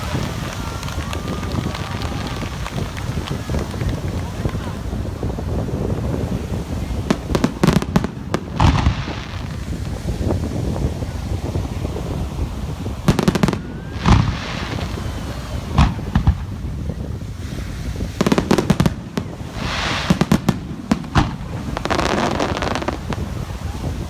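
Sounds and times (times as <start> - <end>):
crackling shower of fireworks: 0.0 - 24.0
fireworks exploding: 0.0 - 24.0.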